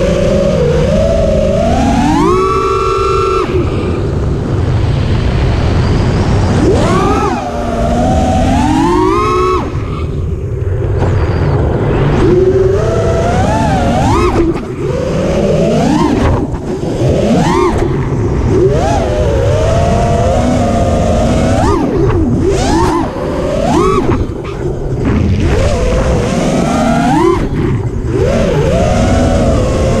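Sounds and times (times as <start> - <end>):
drone motors whining: 0.0 - 30.0
wind rumble on microphone: 0.0 - 30.0.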